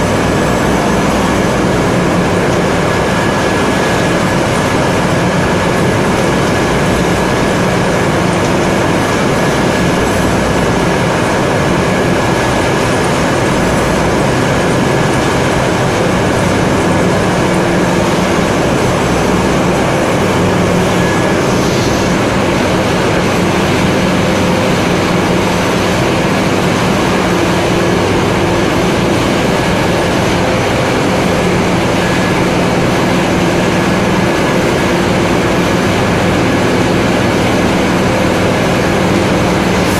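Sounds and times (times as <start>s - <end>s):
machine high whine: 0.0s - 39.9s
machine low hum: 0.0s - 39.9s.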